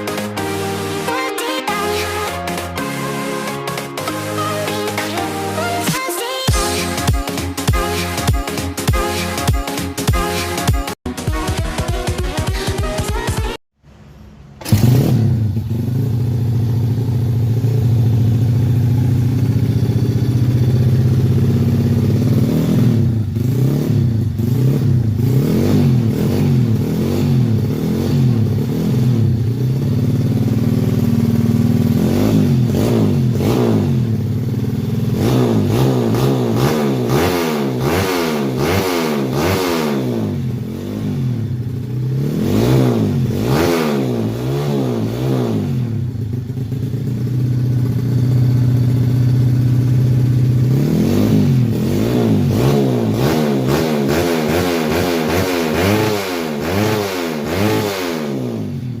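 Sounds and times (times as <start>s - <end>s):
motorcycle engine revving: 1.7s - 11.0s, 14.0s - 59.0s.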